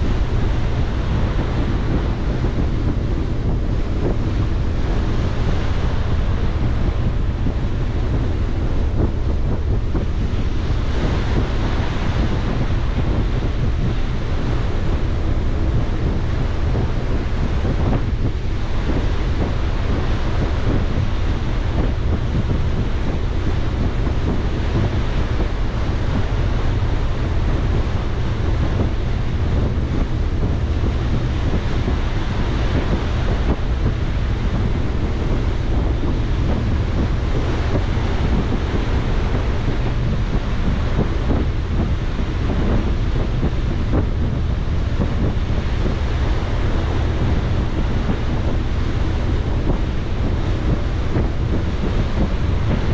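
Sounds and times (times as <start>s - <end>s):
sea water rushing along hull: 0.0s - 52.9s
wind buffeting microphone: 0.0s - 52.9s.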